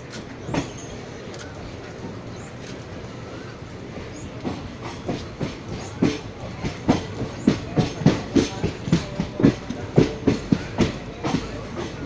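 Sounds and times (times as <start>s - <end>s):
train rumble: 0.0s - 12.0s
train wheels clacking on rails: 0.0s - 12.0s.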